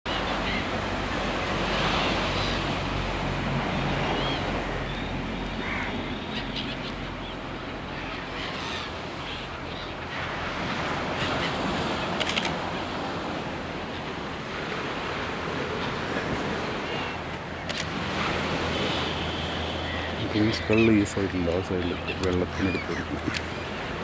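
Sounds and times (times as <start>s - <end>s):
surf washing onto beach: 0.1s - 6.1s, 10.1s - 24.0s.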